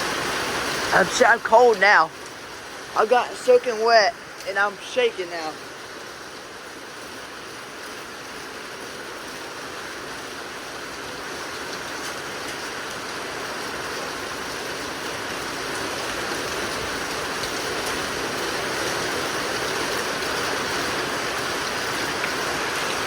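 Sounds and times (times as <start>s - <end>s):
heavy rain and wind: 0.0s - 23.0s.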